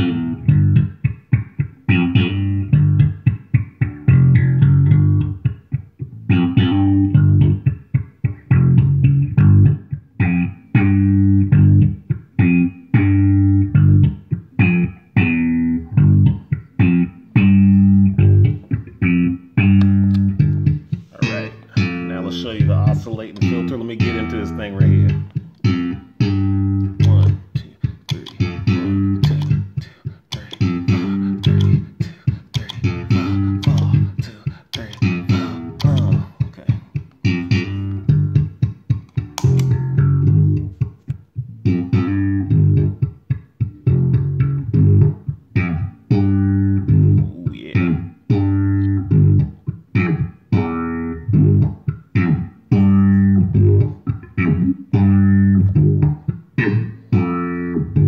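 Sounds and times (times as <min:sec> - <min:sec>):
electric bass guitar: 0:00.0 - 0:58.0.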